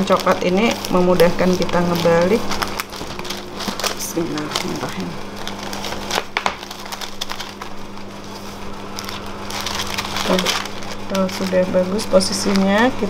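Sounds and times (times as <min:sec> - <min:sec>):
rustling: 0:00.0 - 0:13.0
steady low hum: 0:00.0 - 0:13.0.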